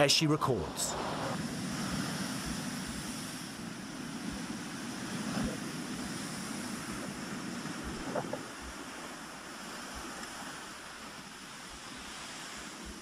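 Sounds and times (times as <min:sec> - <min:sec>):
seawater rushing and churning: 0:00.0 - 0:13.0.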